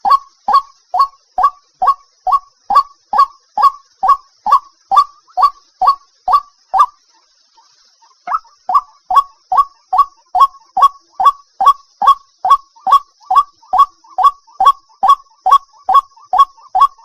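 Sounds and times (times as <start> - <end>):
waterhen calling: 0.0 - 7.0, 7.6 - 17.0.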